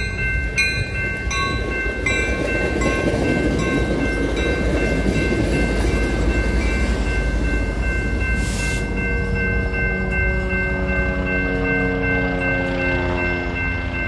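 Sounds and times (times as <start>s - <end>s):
crossing bell ringing: 0.0s - 14.0s
locomotive passing: 0.0s - 14.0s
train wheels rumbling: 0.0s - 14.0s.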